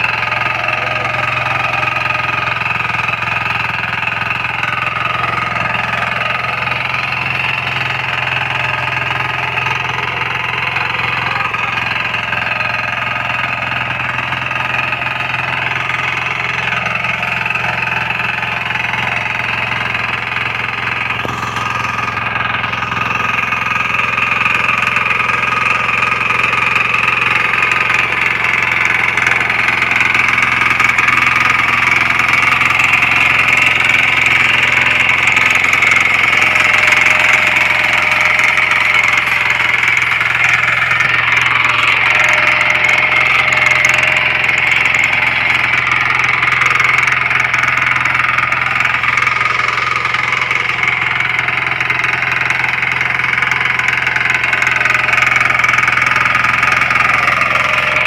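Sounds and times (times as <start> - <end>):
diesel engine running: 0.0 - 58.0
rotary tines tilling soil: 0.0 - 58.0.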